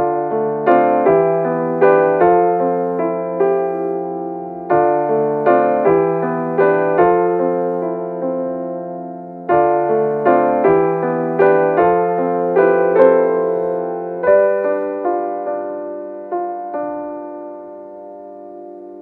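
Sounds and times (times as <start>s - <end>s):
slow solo piano music: 0.0s - 19.0s.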